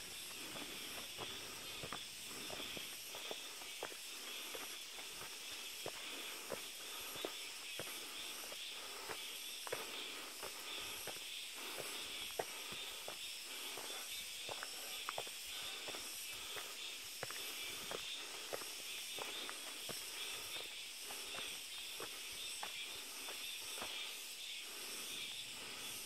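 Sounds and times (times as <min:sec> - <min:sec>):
steady high hiss: 0:00.0 - 0:26.0
footsteps on dirt path: 0:00.1 - 0:24.9.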